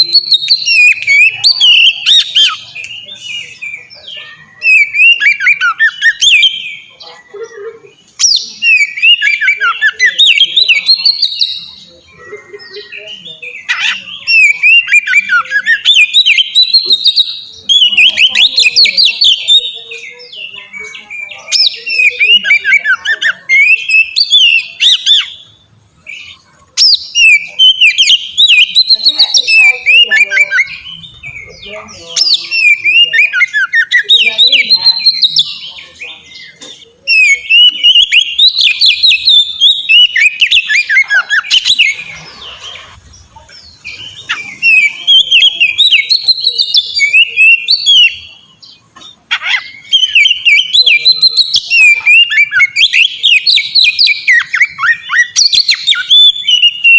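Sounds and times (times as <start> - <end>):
bird singing chirps and whistles: 0.0 - 7.1, 8.2 - 42.8, 43.6 - 56.9.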